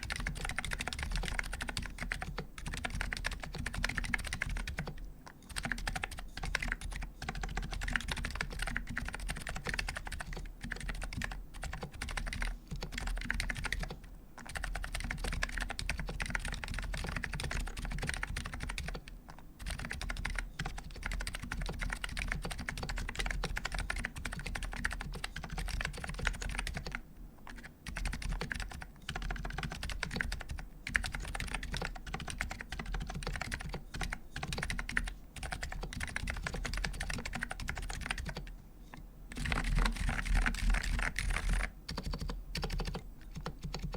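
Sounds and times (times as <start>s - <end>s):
keyboard typing clacks: 0.0s - 38.5s, 39.3s - 43.9s.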